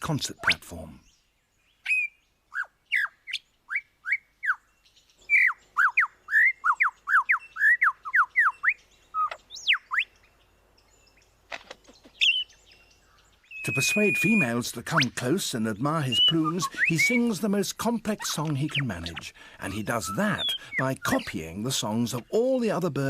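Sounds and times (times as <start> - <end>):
lyrebird whistled song: 0.3 - 11.3, 12.0 - 22.6.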